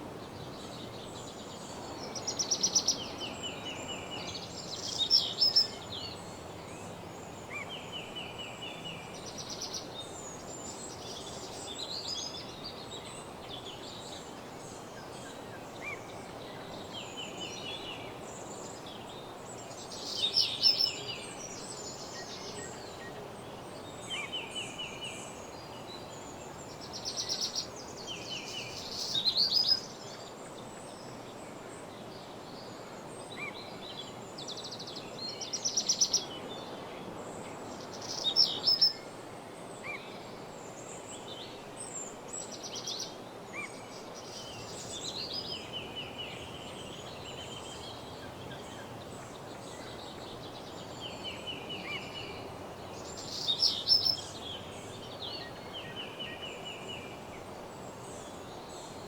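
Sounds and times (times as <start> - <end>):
songbirds singing trills: 0.0 - 31.2, 32.1 - 39.1, 39.8 - 59.0.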